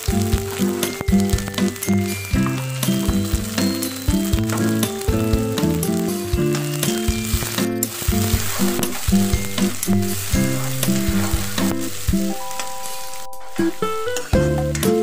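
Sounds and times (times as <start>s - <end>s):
background music with held notes: 0.0s - 15.0s
onions sizzling in hot oil: 0.0s - 15.0s
spatula stirring in pan: 0.3s - 12.4s.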